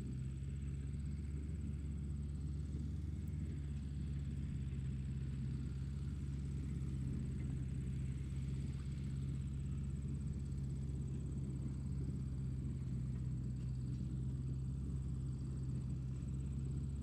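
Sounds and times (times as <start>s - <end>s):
tractor engine running steadily: 0.0s - 17.0s.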